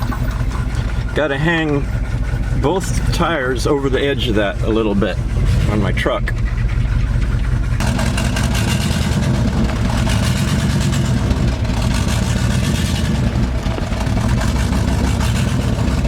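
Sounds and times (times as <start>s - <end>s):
truck engine rumble: 0.0s - 16.0s.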